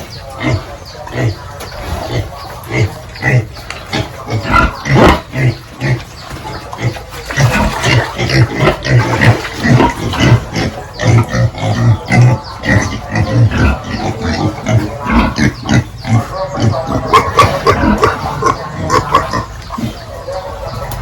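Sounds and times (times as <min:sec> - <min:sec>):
pigs grunting: 0:00.0 - 0:21.0.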